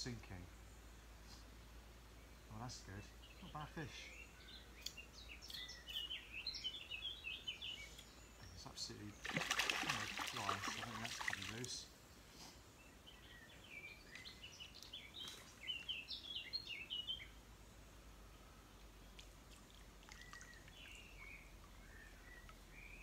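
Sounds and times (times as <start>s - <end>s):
small bird singing: 0.0s - 19.2s, 20.1s - 23.0s
faint outdoor background noise: 0.0s - 23.0s.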